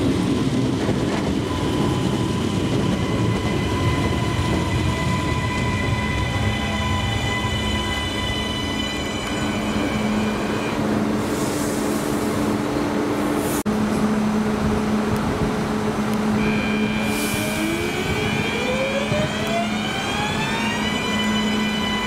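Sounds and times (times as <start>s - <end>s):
train wheel and track noise: 0.0s - 22.0s.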